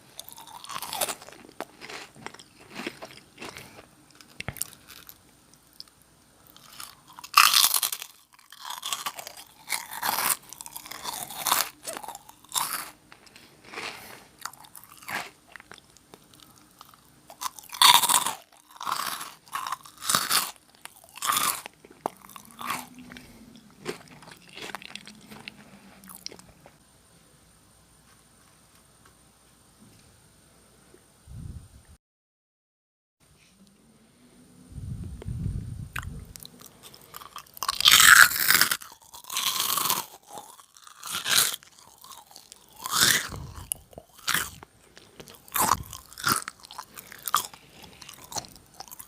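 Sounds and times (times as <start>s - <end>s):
crunchy chewing: 0.0s - 26.8s, 35.9s - 49.0s
crunchy snack bites: 0.2s - 26.8s, 36.0s - 49.0s.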